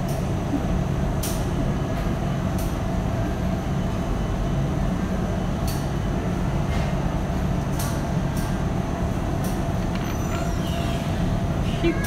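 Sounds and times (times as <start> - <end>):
low hum of store: 0.0 - 12.0.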